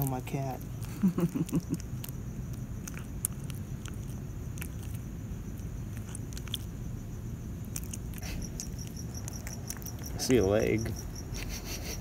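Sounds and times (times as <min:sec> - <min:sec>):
cat chewing and crunching: 0:00.0 - 0:11.7.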